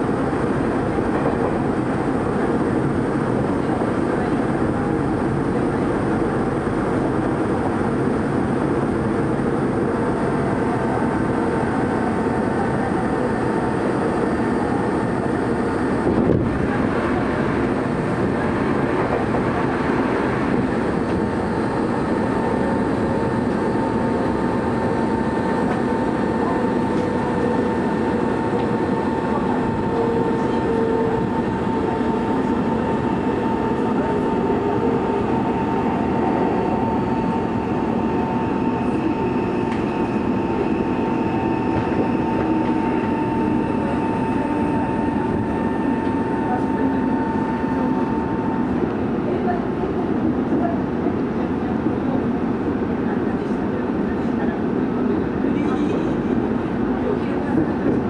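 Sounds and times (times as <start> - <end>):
thin steady whine: 0.0 - 51.6
train rumble from inside car: 0.0 - 58.0.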